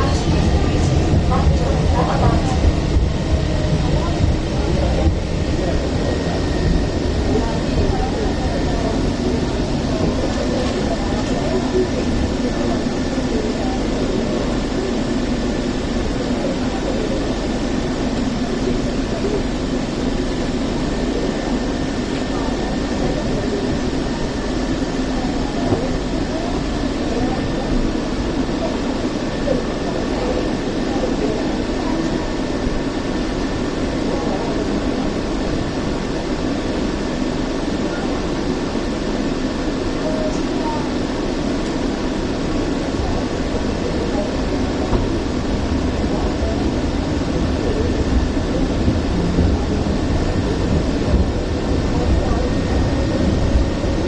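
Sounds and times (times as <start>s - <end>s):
tram car rumble and hum: 0.0s - 54.0s.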